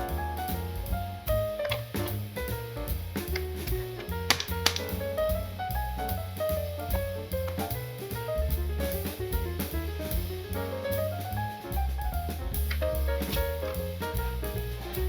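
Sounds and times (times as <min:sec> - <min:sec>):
jazz music with drums and bass: 0:00.0 - 0:15.0.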